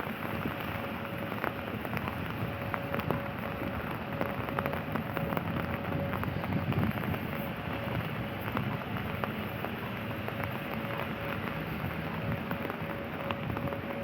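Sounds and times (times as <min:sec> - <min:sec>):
rain falling: 0:00.0 - 0:14.0
raindrops ticking close: 0:00.0 - 0:14.0.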